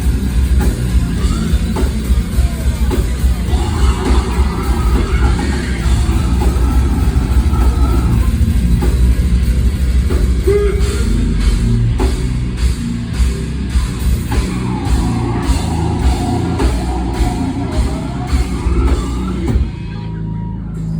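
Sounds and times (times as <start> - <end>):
loud rock music: 0.0 - 20.9.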